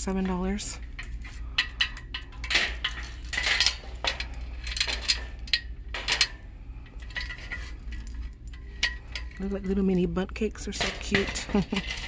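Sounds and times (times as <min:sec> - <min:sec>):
metal baking pans clattering: 0:00.0 - 0:06.4, 0:07.0 - 0:12.0
steady low hum: 0:00.0 - 0:12.0.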